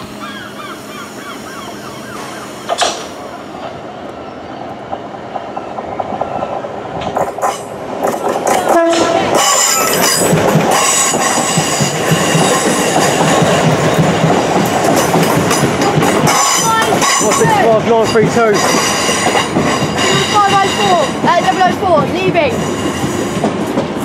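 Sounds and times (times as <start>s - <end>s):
electric train running: 0.0s - 24.0s
wheels rumbling: 0.0s - 24.0s.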